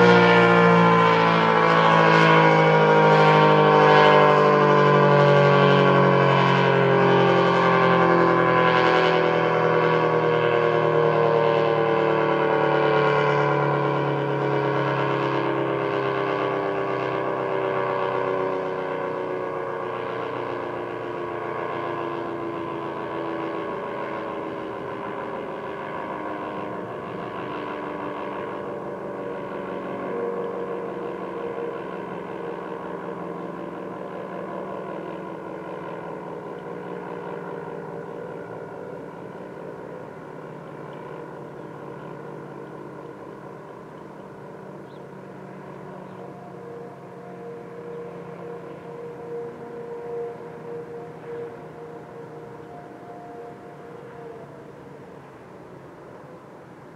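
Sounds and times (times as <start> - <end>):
tornado siren winding down: 0.0 - 56.9.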